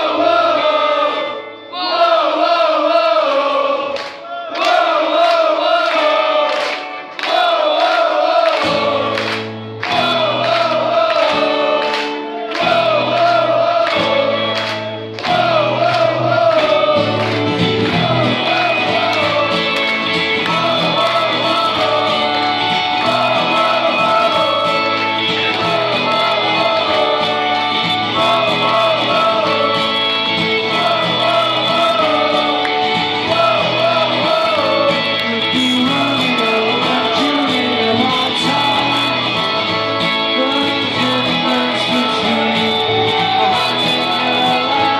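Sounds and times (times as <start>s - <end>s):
crowd singing along: 0.0s - 44.9s
person singing: 4.6s - 44.9s
low guitar notes: 6.1s - 44.9s
live rock band playing: 8.7s - 44.9s.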